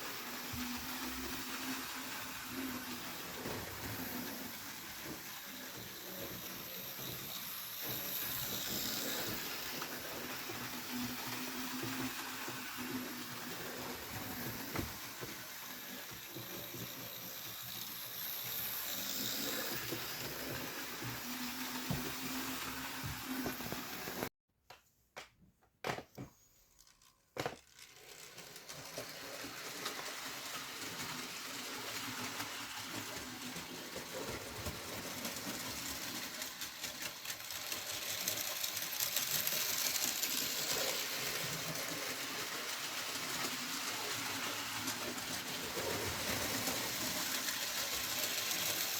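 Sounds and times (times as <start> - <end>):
model train motor whirring: 0.0 - 24.3, 26.7 - 48.9.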